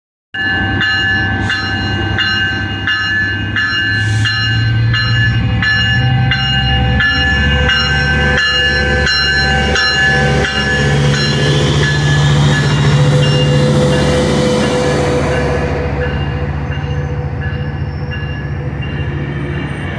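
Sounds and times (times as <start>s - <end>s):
locomotive bell ringing: 0.4s - 19.9s.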